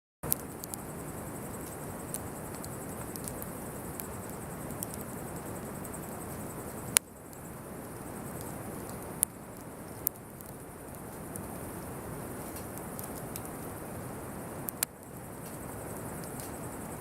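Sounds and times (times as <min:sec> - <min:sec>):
campfire burning: 0:00.2 - 0:17.0
fire crackling: 0:00.2 - 0:17.0.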